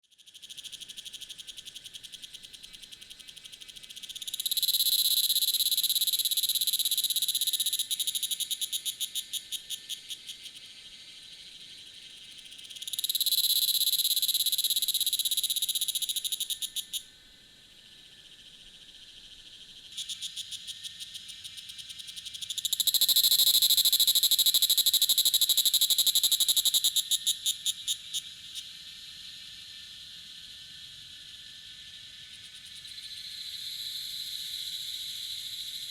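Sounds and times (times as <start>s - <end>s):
cicada buzzing and pulsing: 0.2s - 35.9s.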